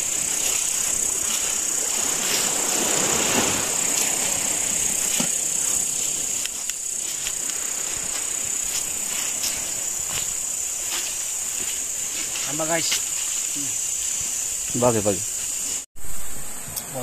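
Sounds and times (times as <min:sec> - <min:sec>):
crickets chirping chorus: 0:00.0 - 0:17.0
rushing hiss: 0:00.0 - 0:17.0.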